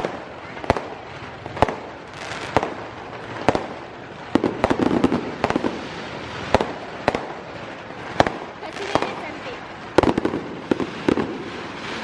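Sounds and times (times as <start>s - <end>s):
crackling pops: 0.0s - 12.0s
fireworks bangs: 0.0s - 12.0s.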